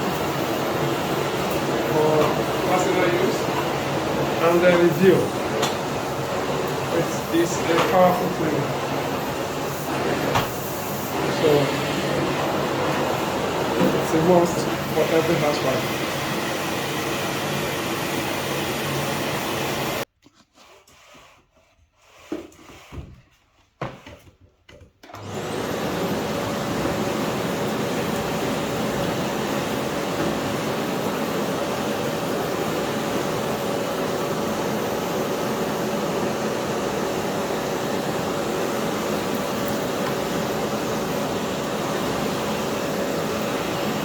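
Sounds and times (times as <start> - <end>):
vacuum cleaner motor whining: 0.0 - 20.1, 25.0 - 44.0.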